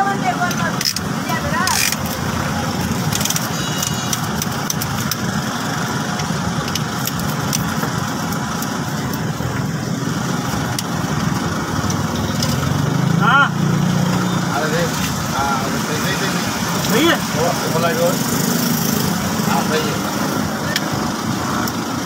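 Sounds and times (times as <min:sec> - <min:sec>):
engine-like mechanical drone: 0:00.0 - 0:22.0.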